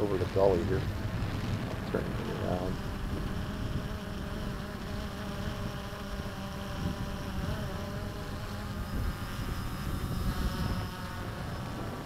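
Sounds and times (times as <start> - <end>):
drone propellers buzzing: 0.0 - 12.0.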